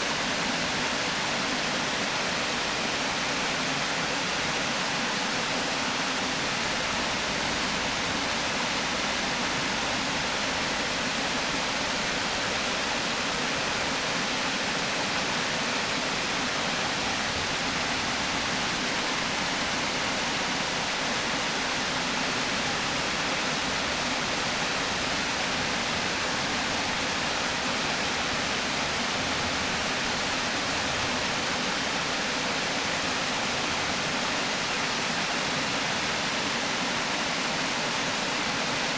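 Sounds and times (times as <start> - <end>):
river water pouring over weir: 0.0 - 38.9.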